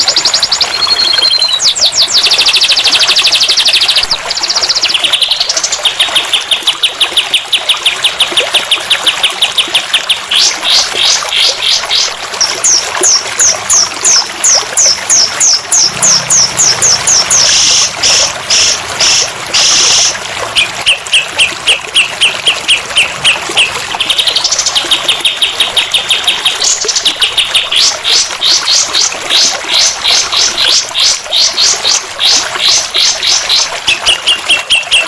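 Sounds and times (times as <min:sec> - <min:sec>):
bird chirping: 0:00.0 - 0:14.2, 0:14.8 - 0:35.0
water trickling: 0:00.0 - 0:35.0.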